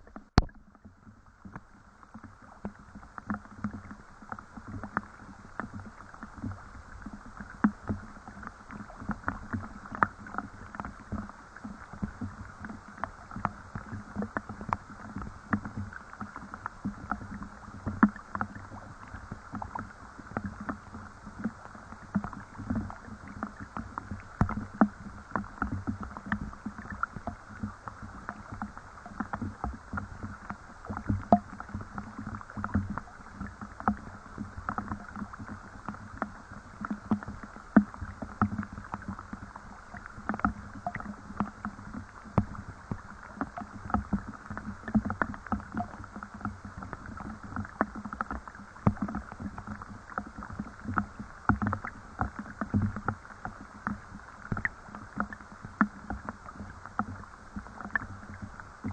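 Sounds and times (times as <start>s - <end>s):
rain drips and plops: 7.3s - 58.9s.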